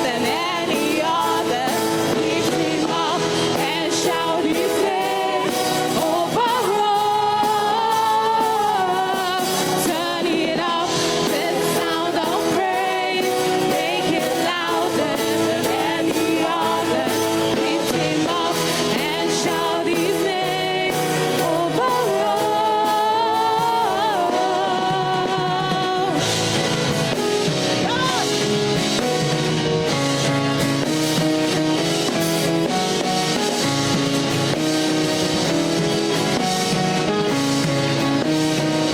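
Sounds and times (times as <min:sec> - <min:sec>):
band with drums and guitar: 0:00.0 - 0:38.9
person singing gospel: 0:00.0 - 0:38.9.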